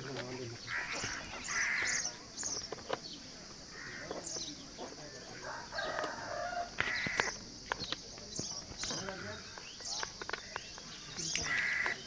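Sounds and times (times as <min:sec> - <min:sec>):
birds chirping: 0:00.0 - 0:12.0
lower bird calls: 0:00.0 - 0:12.0.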